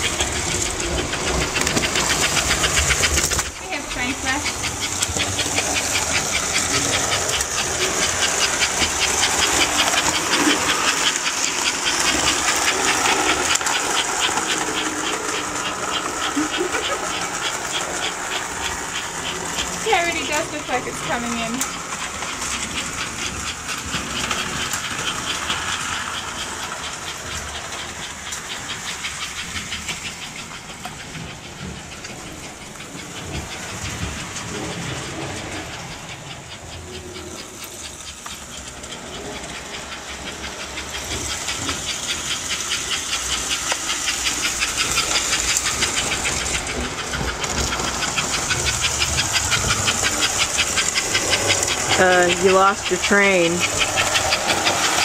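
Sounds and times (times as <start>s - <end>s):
model steam locomotive chuffing: 0.0s - 55.0s
wheels clattering on track: 0.0s - 55.0s.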